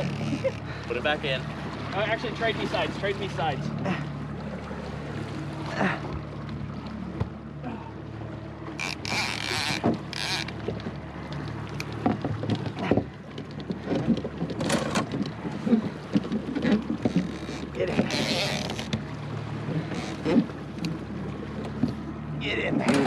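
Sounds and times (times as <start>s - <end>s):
outboard motor idling: 0.0s - 23.0s
water sloshing: 0.0s - 23.0s
water splashing: 0.0s - 23.0s.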